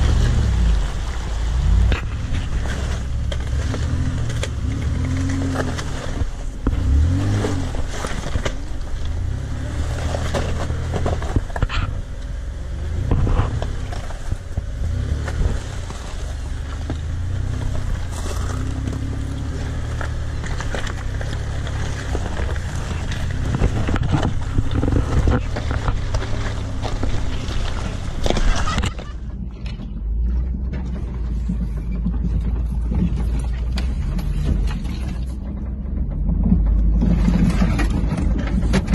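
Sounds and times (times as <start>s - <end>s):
stones knocking under tyres: 0.0s - 38.9s
truck engine at low revs: 0.0s - 38.9s.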